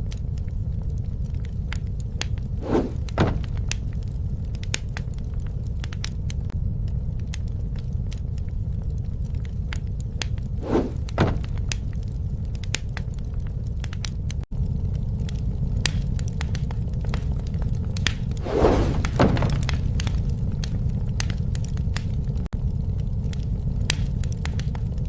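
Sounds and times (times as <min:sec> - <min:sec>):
campfire wood crackling: 0:00.0 - 0:25.0
fire low rumble: 0:00.0 - 0:25.0
loud fire pops: 0:00.0 - 0:25.0.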